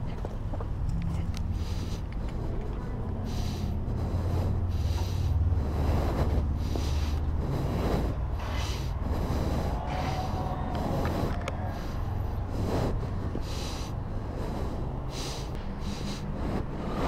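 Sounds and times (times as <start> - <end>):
wind rumbling on microphone: 0.0 - 17.0
hissing rustles: 1.4 - 17.0.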